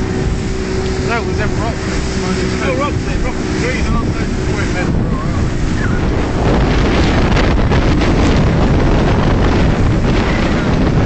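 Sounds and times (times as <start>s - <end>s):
hull running through choppy water: 0.0s - 11.0s
wind rushing over microphone: 0.0s - 11.0s.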